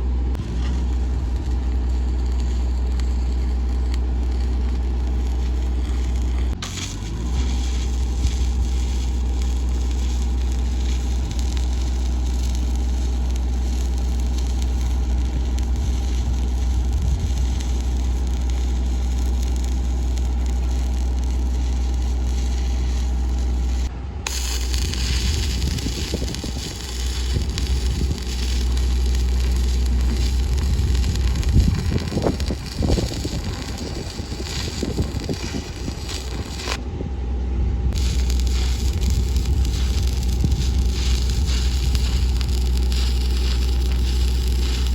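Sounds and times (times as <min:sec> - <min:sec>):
low engine hum: 0:00.0 - 0:44.9
welding arc crackling: 0:00.3 - 0:36.8, 0:37.9 - 0:44.9.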